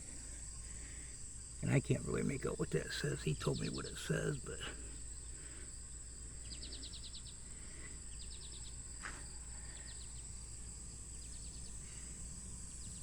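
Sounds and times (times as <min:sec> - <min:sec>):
insects chirping in pulse bursts: 0:00.0 - 0:13.0.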